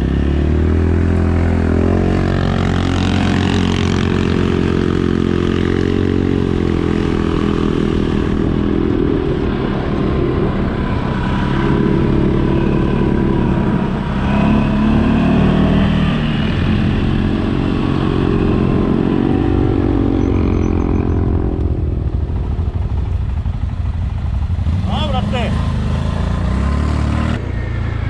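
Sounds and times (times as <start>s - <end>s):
quad engine revving: 0.0s - 22.0s, 24.6s - 28.0s.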